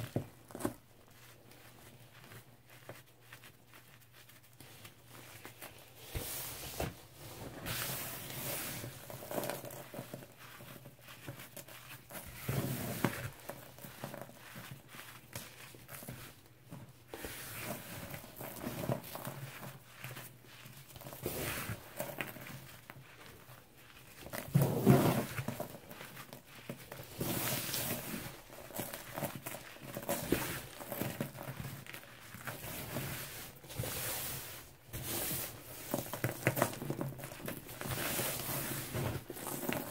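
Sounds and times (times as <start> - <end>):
powder rustling and pattering: 0.0 - 39.9.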